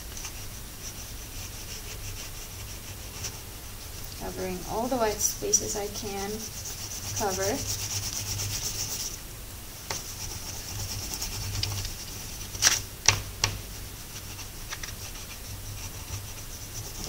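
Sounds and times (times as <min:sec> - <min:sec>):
wax crayon rubbing on paper: 0:00.0 - 0:09.2, 0:09.8 - 0:12.8, 0:13.6 - 0:17.0.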